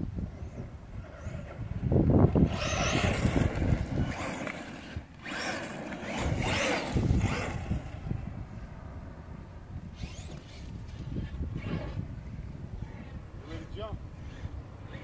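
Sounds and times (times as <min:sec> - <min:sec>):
wind rumble on microphone: 0:00.0 - 0:15.0
rc truck motor rasping: 0:00.3 - 0:08.2, 0:09.9 - 0:12.2, 0:12.8 - 0:15.0.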